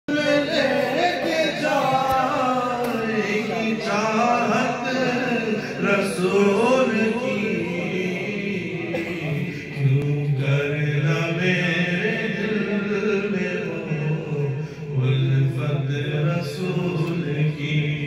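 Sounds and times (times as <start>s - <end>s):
man chanting into a microphone: 0.1s - 18.0s.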